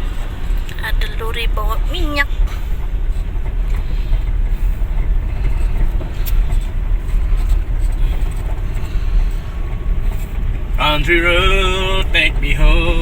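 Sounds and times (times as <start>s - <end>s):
vehicle engine and tyre rumble: 0.0s - 13.0s.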